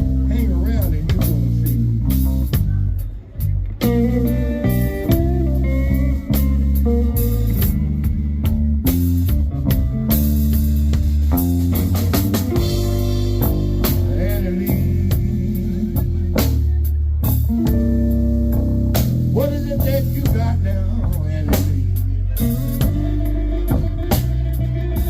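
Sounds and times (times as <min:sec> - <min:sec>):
live blues band playing: 0:00.0 - 0:25.0.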